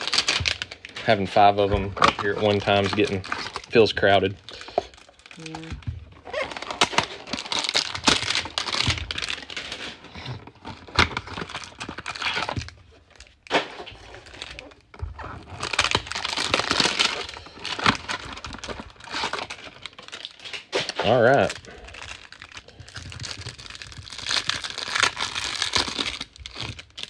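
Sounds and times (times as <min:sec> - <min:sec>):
cardboard and card packs tearing: 0:00.0 - 0:27.0.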